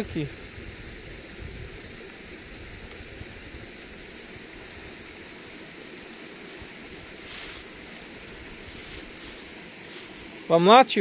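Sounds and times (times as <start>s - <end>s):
water rushing over stones: 0.0s - 11.0s.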